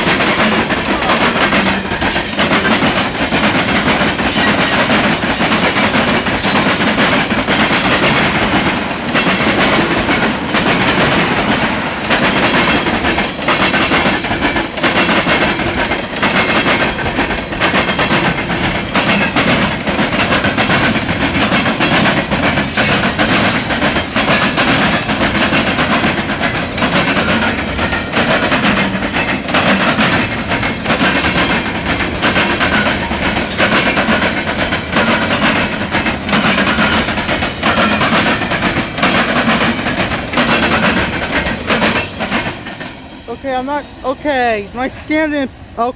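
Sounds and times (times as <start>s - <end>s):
train wheels clacking over rail joints: 0.0s - 43.8s
freight train rumbling past: 0.0s - 45.9s.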